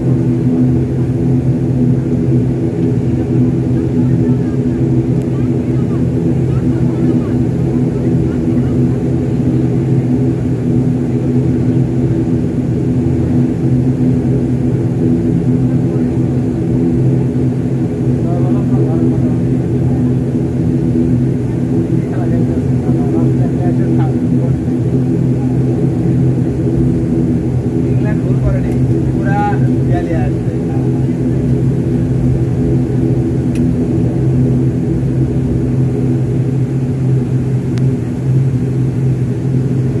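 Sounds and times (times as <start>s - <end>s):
plane engines humming: 0.0s - 40.0s.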